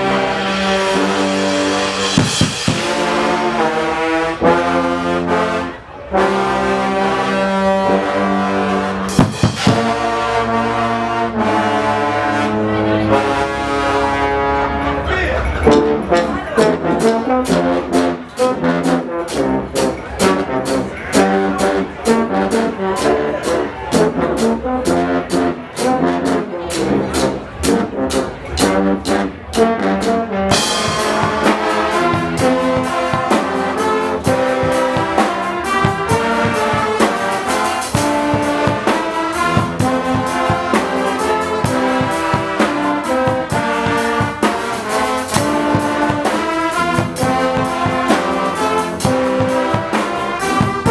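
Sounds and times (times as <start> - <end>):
steady drumbeat: 0.0 - 4.4, 9.1 - 10.2, 15.1 - 50.9
brass band blaring a tune: 0.0 - 50.9.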